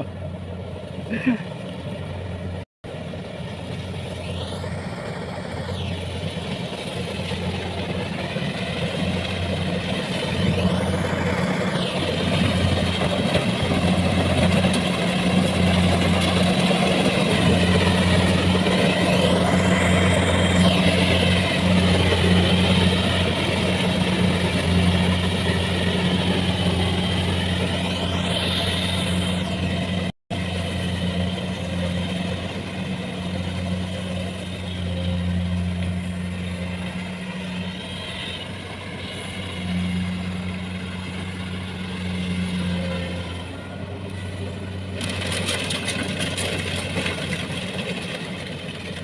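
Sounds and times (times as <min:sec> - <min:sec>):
diesel harvester engine droning: 0:00.0 - 0:49.0.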